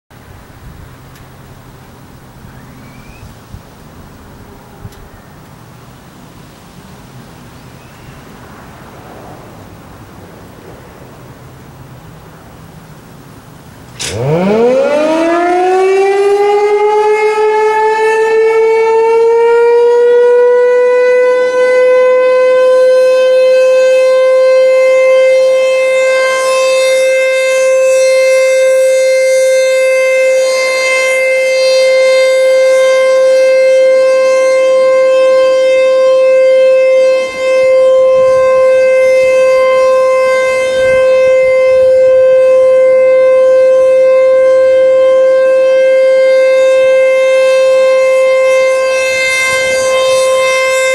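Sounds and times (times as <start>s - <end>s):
rotating warning siren: 0.2s - 6.0s, 6.8s - 50.9s.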